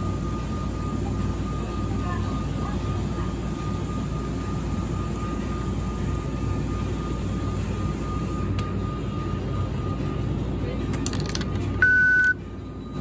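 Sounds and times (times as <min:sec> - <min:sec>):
thin steady high tone: 0:00.0 - 0:10.8.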